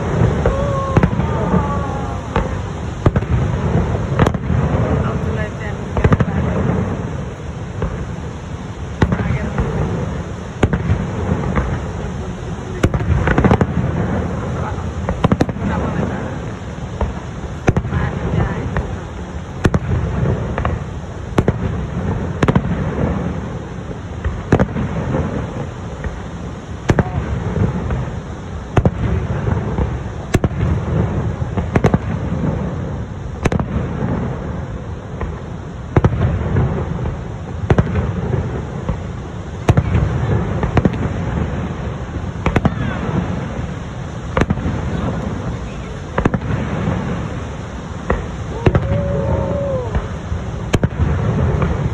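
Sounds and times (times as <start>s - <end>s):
low rumble and crackle: 0.0s - 51.9s.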